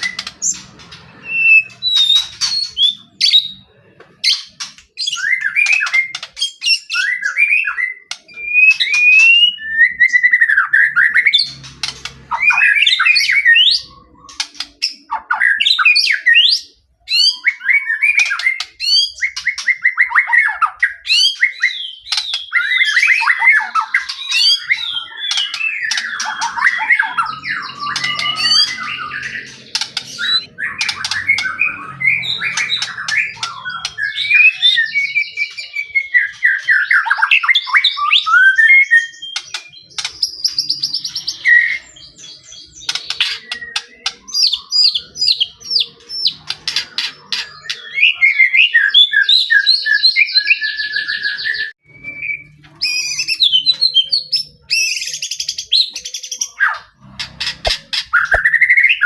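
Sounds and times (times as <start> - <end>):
songbird whistling and trilling: 0.0 - 59.0.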